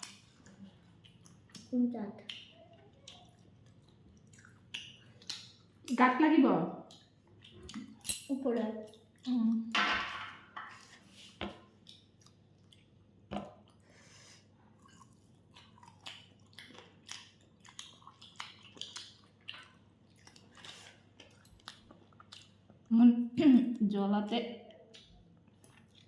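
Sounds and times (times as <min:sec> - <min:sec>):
person chewing food: 0:00.0 - 0:06.0, 0:06.9 - 0:09.6, 0:10.6 - 0:22.9, 0:24.6 - 0:26.0.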